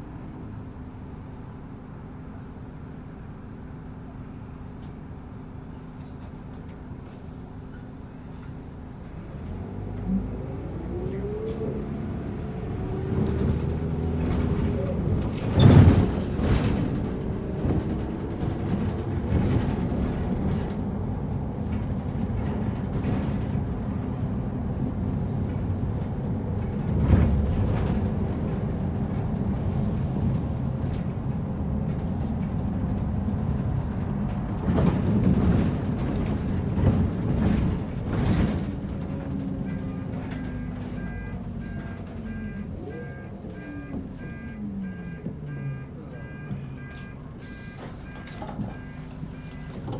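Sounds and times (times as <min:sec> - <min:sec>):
bus diesel engine: 0:00.0 - 0:49.9.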